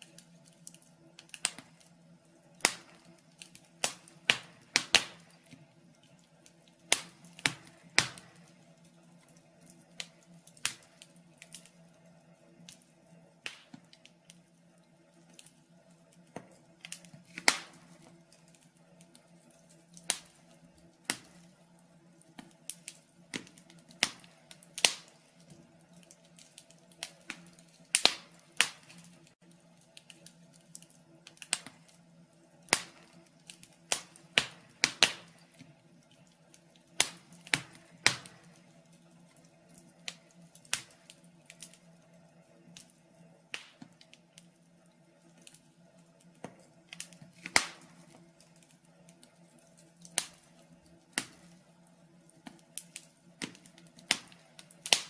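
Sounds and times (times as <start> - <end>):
faint steady hum: 0.0 - 55.0
wood fire crackling and popping: 0.0 - 55.0.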